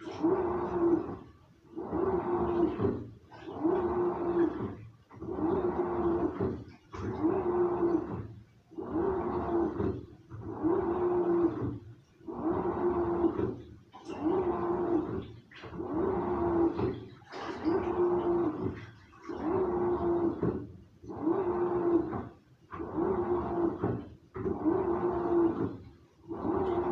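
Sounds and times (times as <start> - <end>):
washing machine motor humming: 0.0 - 26.9
water and laundry sloshing: 0.0 - 26.9.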